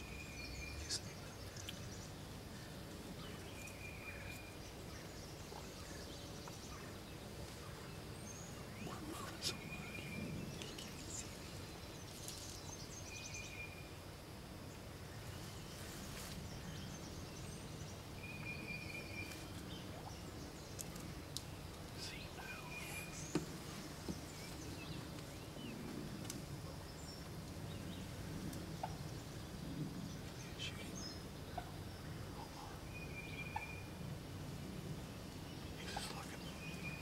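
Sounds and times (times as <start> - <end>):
small birds chirping: 0.0 - 34.1, 34.8 - 37.0
outdoor background noise: 0.0 - 37.0.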